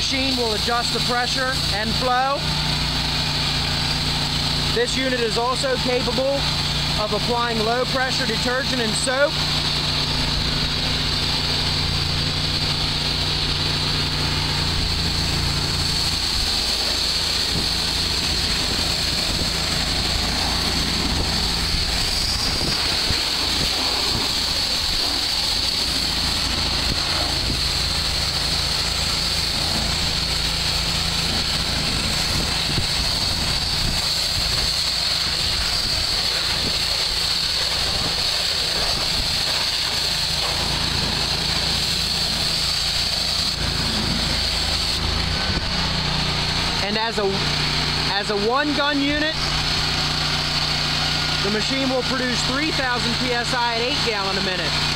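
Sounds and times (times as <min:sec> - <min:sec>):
machine low drone: 0:00.0 - 0:54.9
pressure washer spray hiss: 0:00.0 - 0:54.9.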